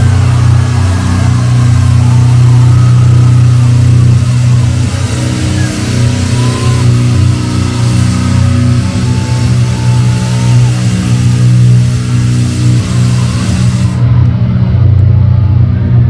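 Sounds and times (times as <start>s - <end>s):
faint crowd voices: 0.0s - 16.0s
heavy bass drone: 0.0s - 16.0s.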